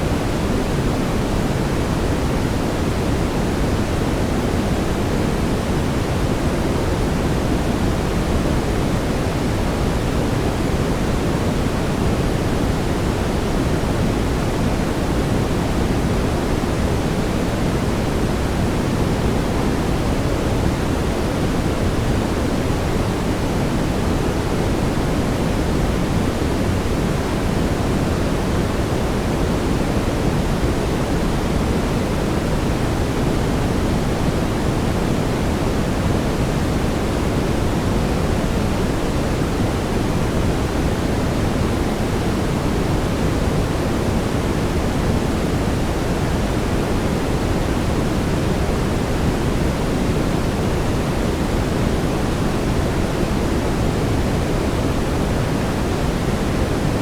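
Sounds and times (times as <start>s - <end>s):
steady brown noise: 0.0s - 57.0s.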